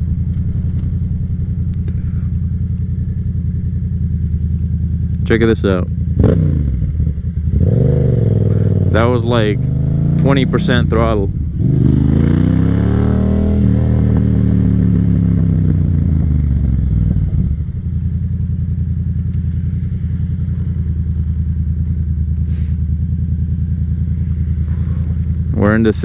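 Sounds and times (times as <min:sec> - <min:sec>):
motorcycle engine revs falling: 0:00.0 - 0:26.0.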